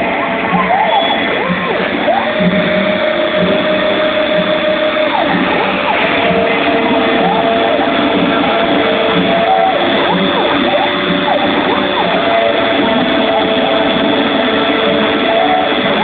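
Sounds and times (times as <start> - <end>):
steady machine hum: 0.0 - 16.0
stepper motors whining: 0.0 - 16.0.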